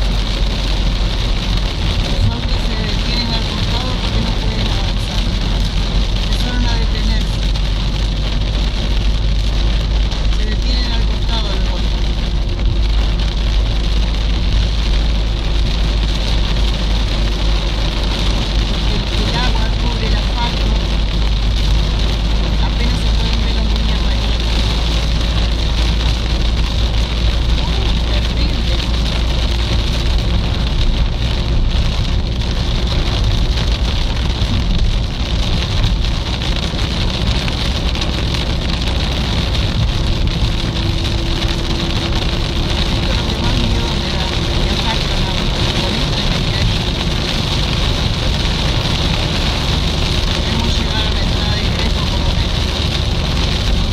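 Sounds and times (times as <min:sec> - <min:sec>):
car driving on wet road: 0:00.0 - 0:53.9
heavy rain hitting car: 0:00.0 - 0:53.9
vehicle rumble from inside cabin: 0:00.0 - 0:53.9.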